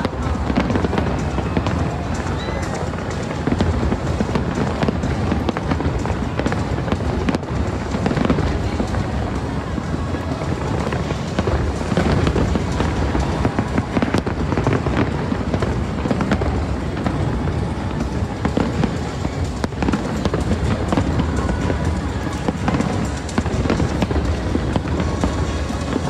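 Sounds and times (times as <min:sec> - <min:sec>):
fireworks bangs and crackles: 0:00.0 - 0:26.0
music playing: 0:00.0 - 0:26.0.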